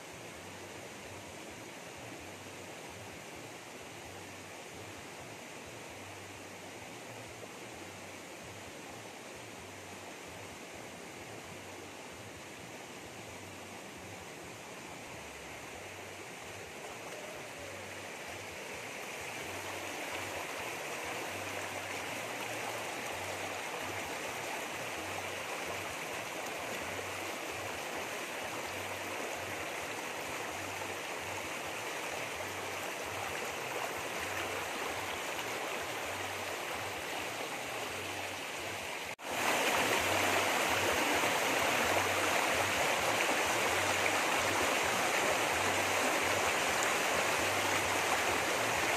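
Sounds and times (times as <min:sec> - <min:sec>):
stream rushing over stones: 0:00.0 - 0:48.9.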